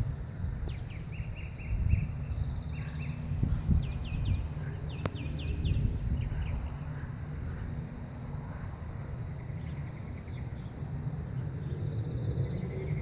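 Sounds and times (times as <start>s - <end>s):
songbird chirping: 0.0s - 7.7s, 9.2s - 13.0s.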